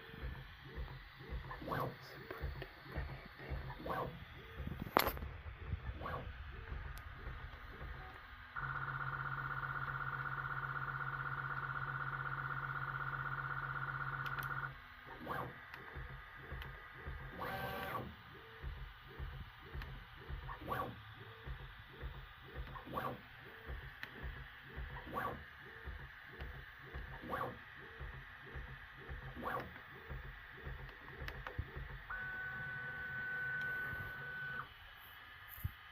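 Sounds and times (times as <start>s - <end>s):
printer motor hum: 0.0s - 35.9s.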